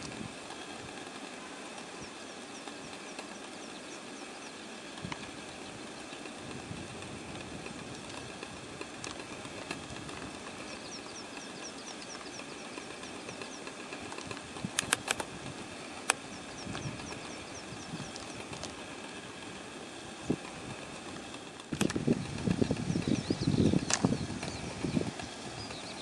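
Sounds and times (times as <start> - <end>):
steady outdoor rumble: 0.0 - 26.0.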